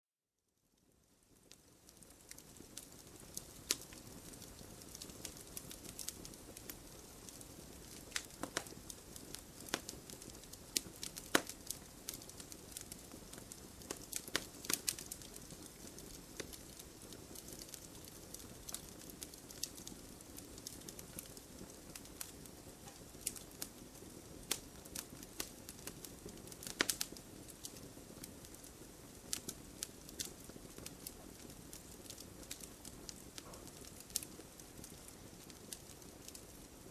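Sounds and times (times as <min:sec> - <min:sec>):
wood fire crackling and popping: 0:00.8 - 0:36.9.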